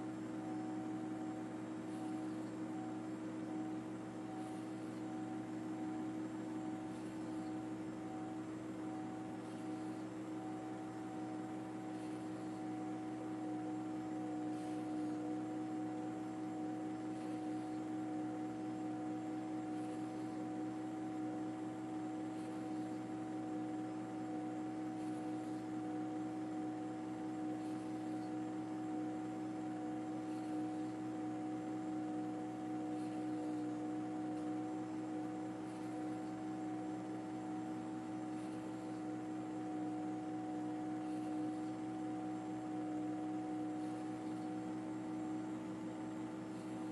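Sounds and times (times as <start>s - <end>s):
constant hiss: 0.0s - 46.9s
machine drone with held tones: 0.0s - 46.9s.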